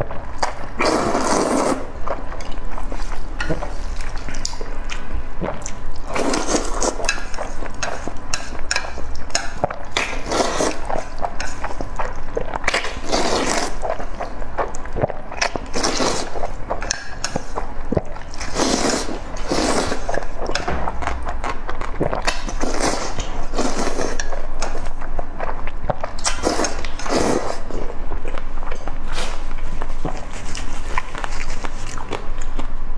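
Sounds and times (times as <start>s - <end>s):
slurping and chewing noodles: 0.0s - 32.7s.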